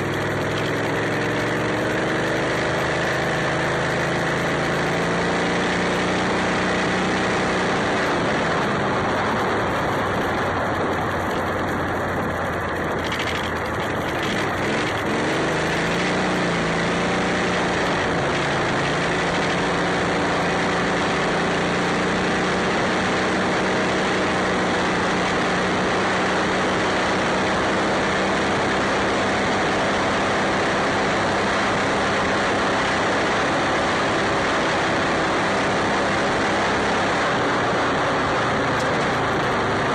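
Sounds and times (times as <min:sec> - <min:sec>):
golf cart engine running: 0:00.0 - 0:39.9
wind and road noise: 0:00.0 - 0:39.9.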